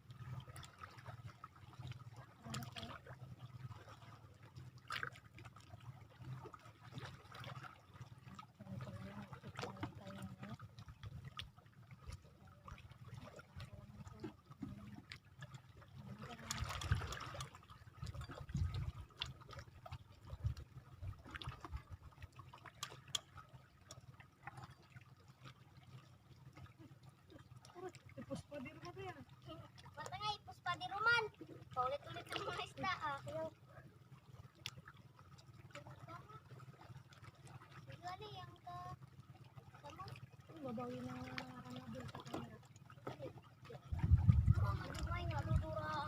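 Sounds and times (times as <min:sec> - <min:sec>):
seawater lapping at shoreline: 0:00.0 - 0:46.0
small water splashes: 0:00.0 - 0:46.0.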